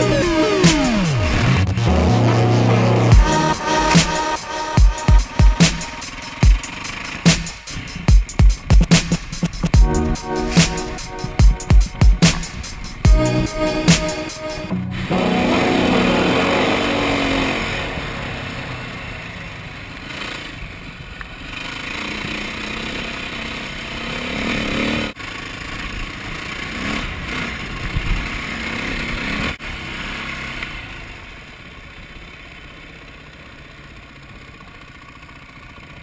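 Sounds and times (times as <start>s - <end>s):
dirt bike engine revving: 0.0s - 20.7s, 21.4s - 31.0s.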